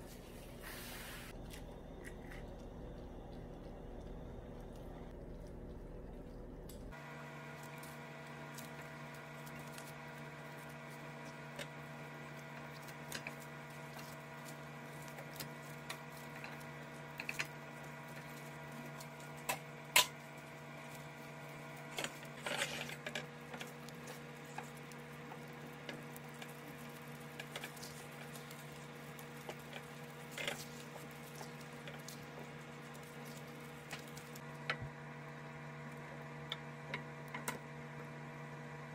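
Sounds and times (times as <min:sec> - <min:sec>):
steady hum: 0:00.0 - 0:38.9.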